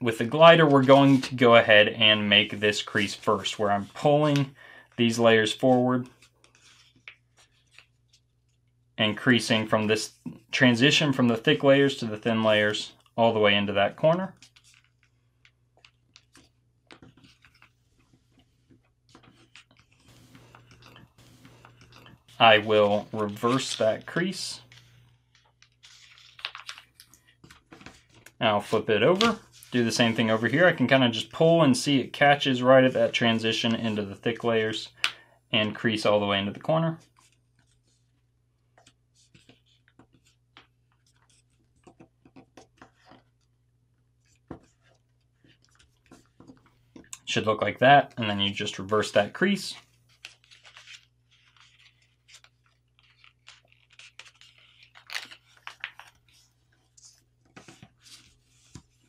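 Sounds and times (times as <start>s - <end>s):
paper creasing and rustling: 0.0s - 35.0s, 35.7s - 59.0s.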